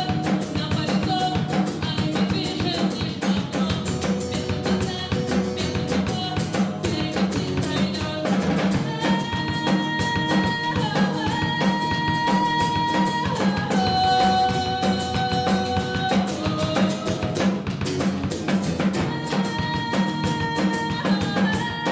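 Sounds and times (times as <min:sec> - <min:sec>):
drum kit beat: 0:00.0 - 0:21.9.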